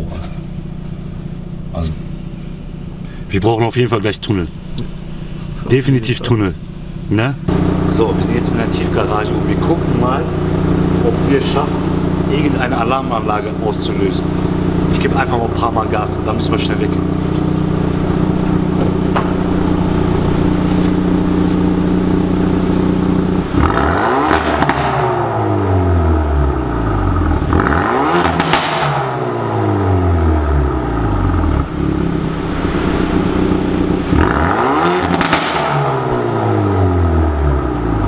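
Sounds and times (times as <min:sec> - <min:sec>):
car engine idling and revving: 0:00.0 - 0:38.0
exhaust crack: 0:00.0 - 0:38.0.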